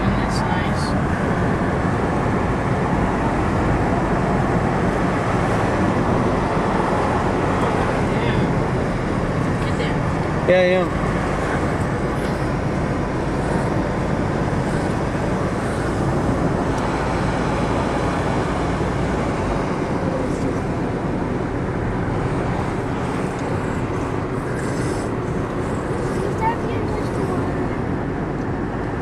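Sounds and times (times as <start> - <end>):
car engine: 0.0 - 29.0
car tyre road noise: 0.0 - 29.0.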